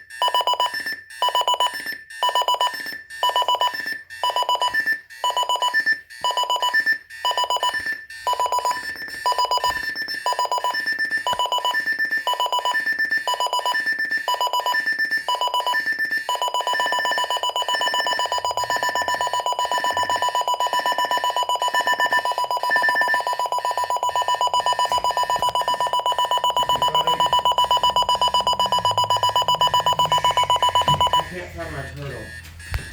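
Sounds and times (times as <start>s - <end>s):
alarm clock beeping: 0.0s - 32.9s.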